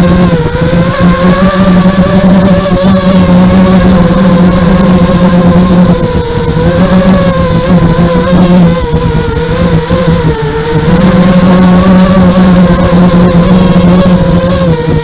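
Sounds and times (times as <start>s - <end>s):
quadcopter motors buzzing: 0.0s - 15.0s
thin high whine: 0.0s - 15.0s.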